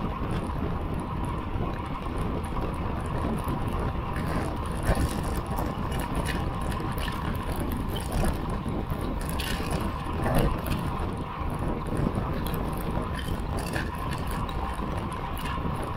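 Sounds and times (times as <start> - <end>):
wind rushing over microphone: 0.0 - 15.9.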